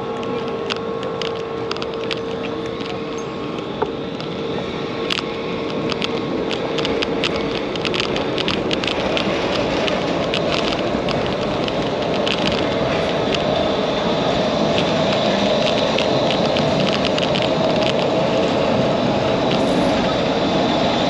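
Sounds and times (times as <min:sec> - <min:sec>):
steady street noise rush: 0:00.0 - 0:21.0
small sharp clicks and rattles: 0:00.1 - 0:04.4, 0:05.0 - 0:18.7.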